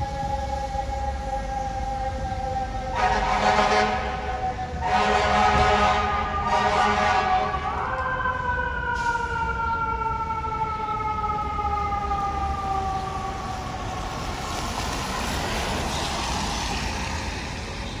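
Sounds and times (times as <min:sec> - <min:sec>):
engine and traffic rumble: 0:00.0 - 0:18.0
fire truck siren winding down: 0:00.0 - 0:18.0.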